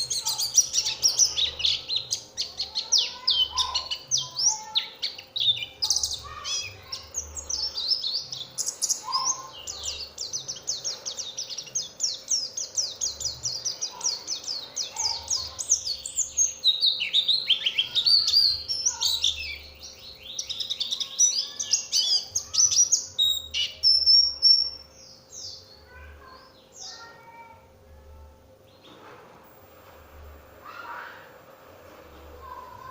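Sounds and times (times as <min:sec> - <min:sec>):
bird chattering song: 0:00.0 - 0:27.4.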